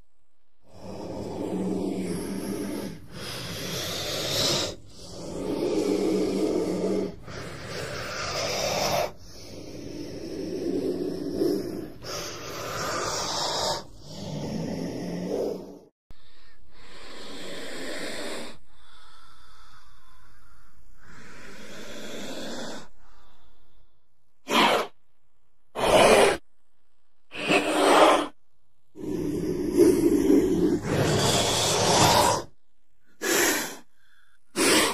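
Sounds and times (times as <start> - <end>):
cobra hissing: 0.7 - 25.0, 25.8 - 26.4, 27.3 - 28.4, 29.0 - 34.9.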